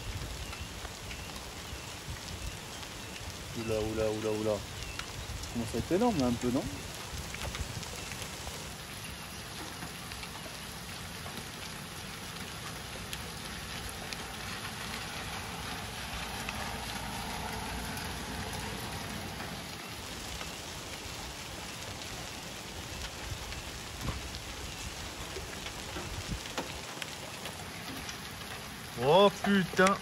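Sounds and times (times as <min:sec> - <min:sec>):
hailstones ticking: 0:00.0 - 0:30.0
heavy rain: 0:00.0 - 0:30.0.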